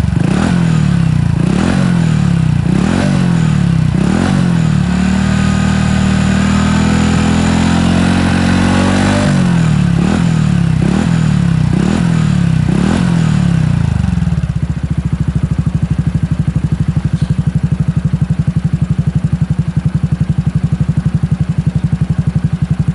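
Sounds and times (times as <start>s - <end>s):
motorcycle engine revving and idling: 0.0s - 22.9s.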